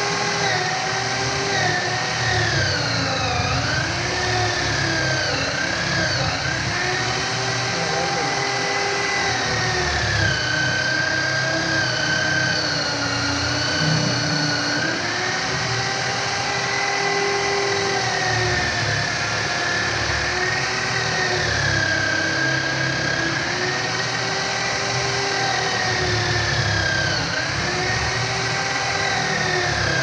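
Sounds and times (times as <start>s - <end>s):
electric drill with buffing wheel: 0.0s - 30.0s.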